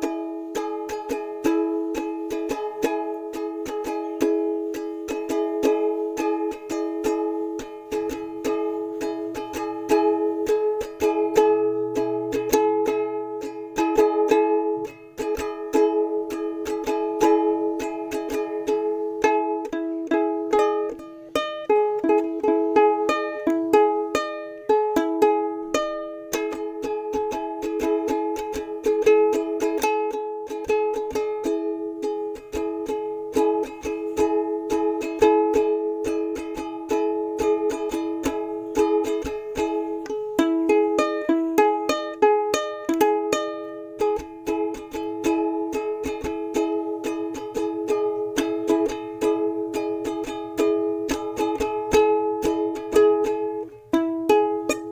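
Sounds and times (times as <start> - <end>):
plucked-string tune: 0.0 - 54.9.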